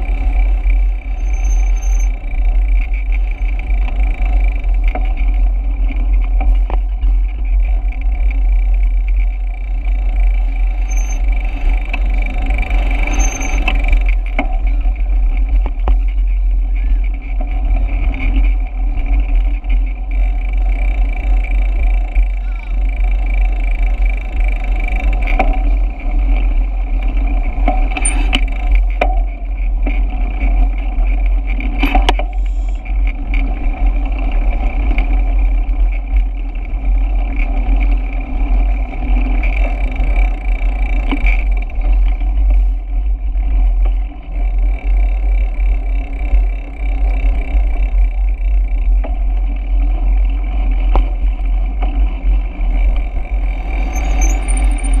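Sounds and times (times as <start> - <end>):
bicycle tyre noise: 0.0 - 55.0.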